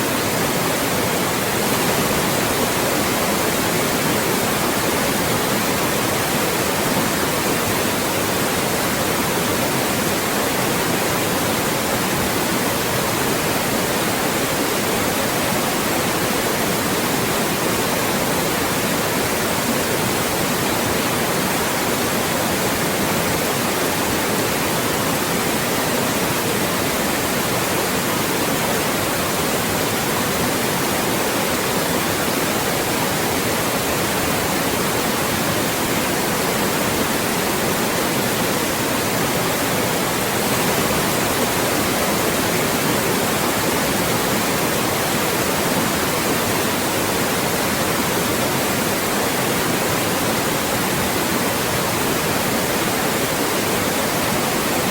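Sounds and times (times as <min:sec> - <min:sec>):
loud white noise hiss: 0:00.0 - 0:54.9.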